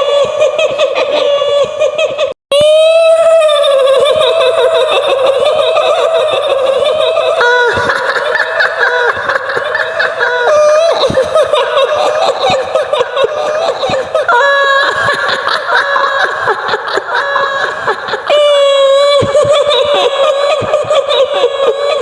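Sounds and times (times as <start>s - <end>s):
woman's shrill giggling laughter: 3.2s - 22.0s.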